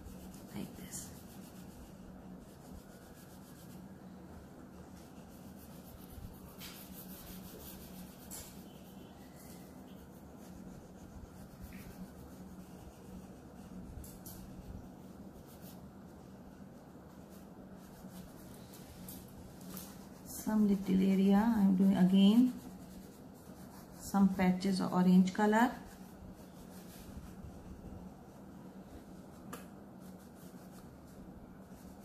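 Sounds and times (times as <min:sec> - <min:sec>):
crayon rubbing on paper: 0:00.0 - 0:03.9, 0:04.7 - 0:19.0, 0:19.7 - 0:32.0.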